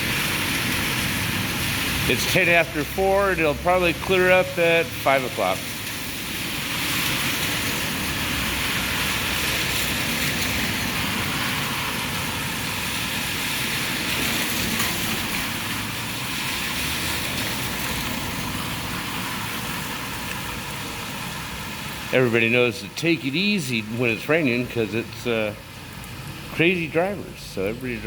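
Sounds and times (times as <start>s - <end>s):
heavy rain pouring: 0.0s - 28.0s
low rumble of traffic: 0.0s - 28.0s.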